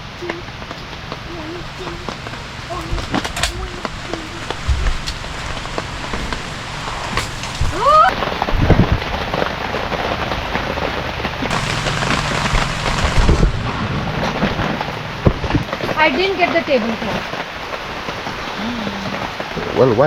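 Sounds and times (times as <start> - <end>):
heavy rain falling: 0.5 - 20.0.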